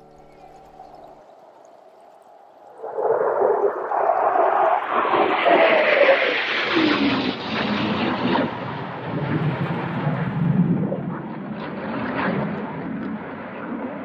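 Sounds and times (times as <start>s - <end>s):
jet engine passing: 0.0s - 14.0s.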